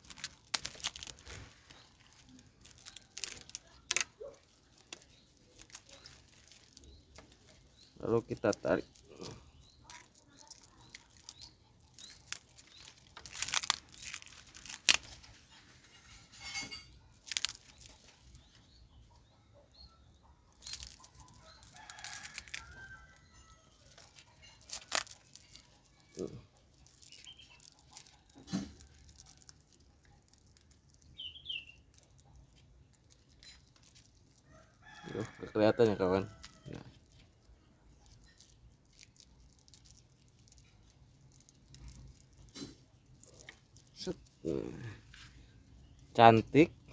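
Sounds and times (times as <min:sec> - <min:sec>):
plastic wrap crinkling: 0:00.0 - 0:18.8, 0:20.5 - 0:46.9
faint chicken: 0:00.9 - 0:45.5.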